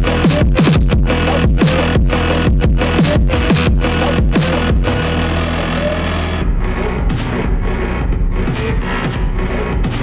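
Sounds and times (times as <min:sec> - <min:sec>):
electronic music with beat: 0:00.0 - 0:10.0
sliding bass notes: 0:00.0 - 0:10.0.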